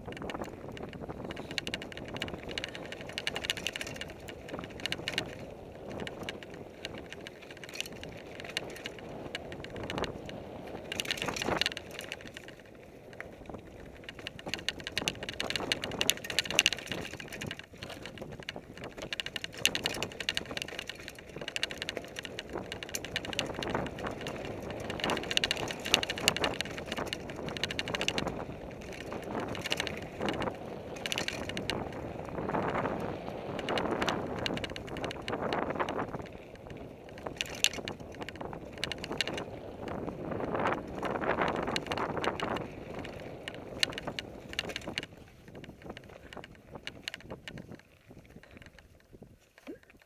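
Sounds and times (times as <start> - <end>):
bike rattles and knocks: 0.0 - 50.0
bike tyres on dirt: 0.0 - 50.0.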